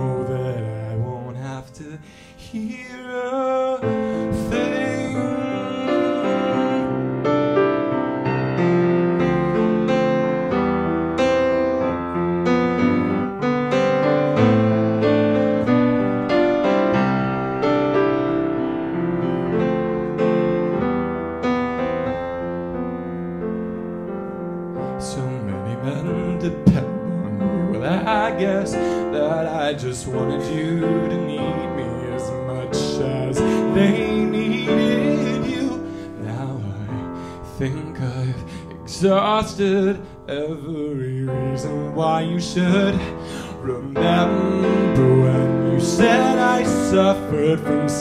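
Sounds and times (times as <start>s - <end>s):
grand piano playing: 0.0s - 48.0s.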